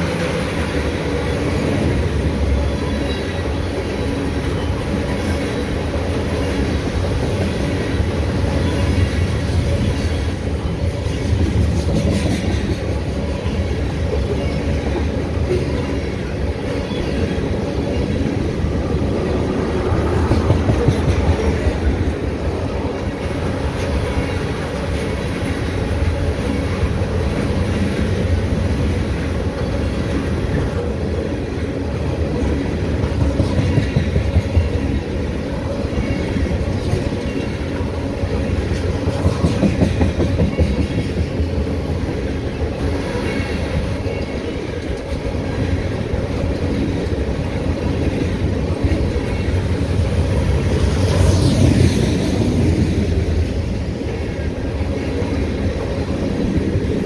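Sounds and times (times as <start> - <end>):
train wheels rumbling on rails: 0.0 - 57.0
wheels clickety-clack on track: 0.0 - 57.0.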